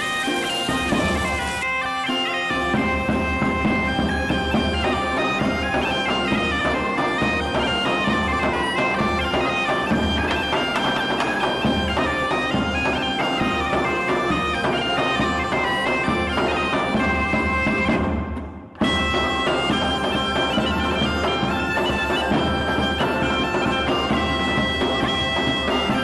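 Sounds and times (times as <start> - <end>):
bagpipe music: 0.0 - 26.0.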